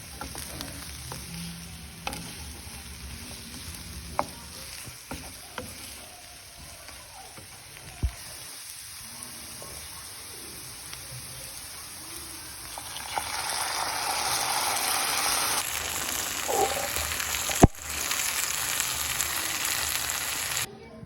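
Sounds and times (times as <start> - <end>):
food frying in hot oil: 0.0 - 20.7.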